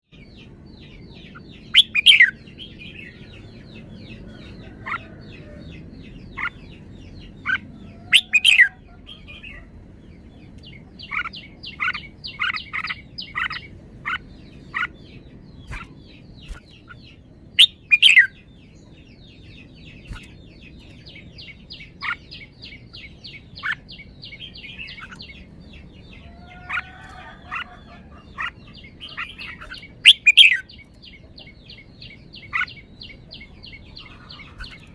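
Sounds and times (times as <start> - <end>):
bird song phrases: 0.0 - 34.9
high bird chirps: 0.1 - 34.9.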